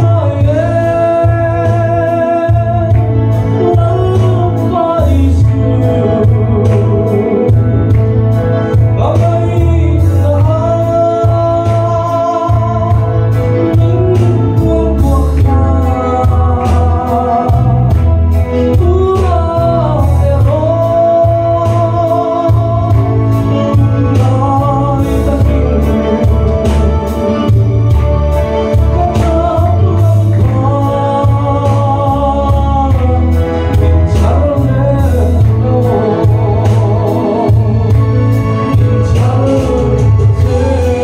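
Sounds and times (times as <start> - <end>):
heavy bass line: 0.0 - 41.0
man singing into microphone: 0.0 - 41.0
steady drum beat: 0.0 - 41.0.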